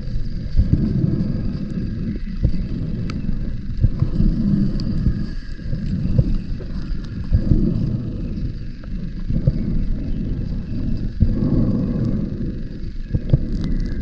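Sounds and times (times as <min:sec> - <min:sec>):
faint clicks: 0:00.0 - 0:14.0
underwater regulator bubbles: 0:00.0 - 0:14.0.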